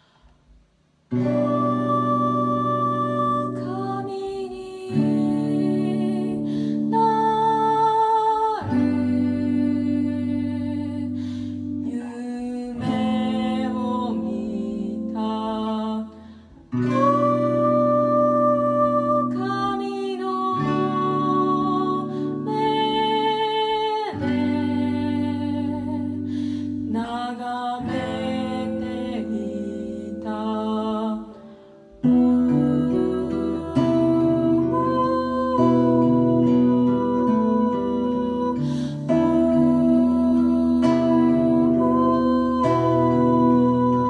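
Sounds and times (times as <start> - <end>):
slow melodic tones: 0.0 - 44.0
slow guitar music: 1.1 - 44.0.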